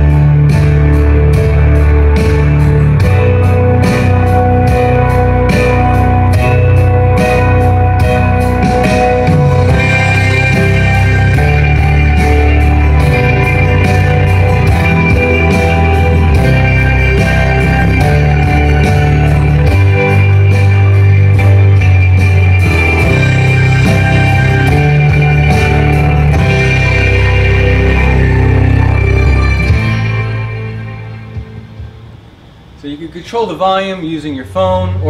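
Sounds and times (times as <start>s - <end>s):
rock music with guitar and drums: 0.0s - 32.1s.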